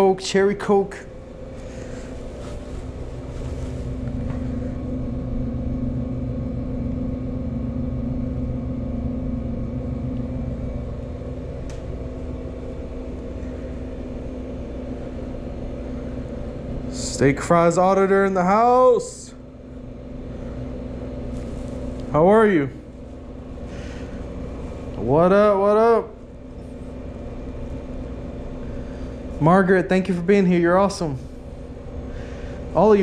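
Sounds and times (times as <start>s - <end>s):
vending machine humming: 0.0s - 33.0s.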